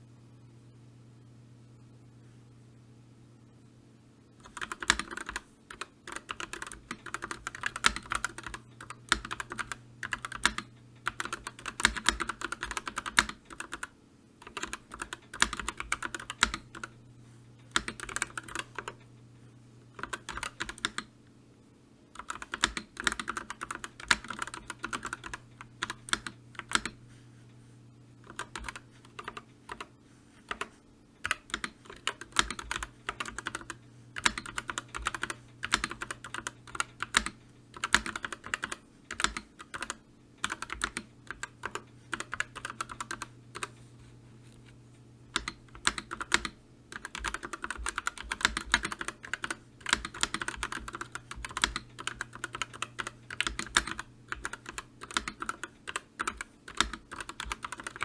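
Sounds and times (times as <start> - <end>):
typing on computer keyboard: 4.4 - 17.0, 17.7 - 19.1, 19.9 - 21.1, 22.2 - 27.0, 28.2 - 29.9, 30.5 - 43.8, 45.3 - 58.0.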